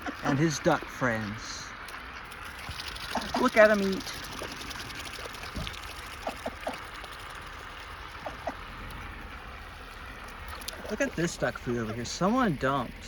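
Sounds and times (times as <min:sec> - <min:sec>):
ducks pecking clicks: 0:00.0 - 0:12.9.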